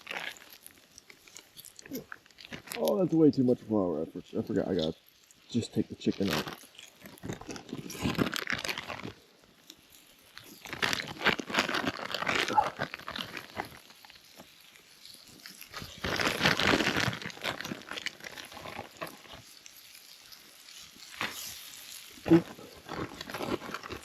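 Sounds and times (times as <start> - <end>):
plastic bag crinkling: 0.0 - 3.5, 4.2 - 24.0.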